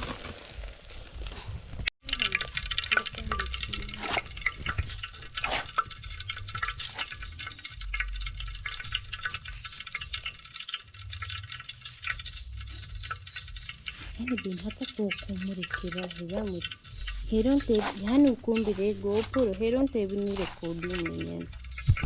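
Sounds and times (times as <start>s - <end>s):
food crackling in a pot: 0.0s - 22.0s
stirring clicks: 0.0s - 22.0s.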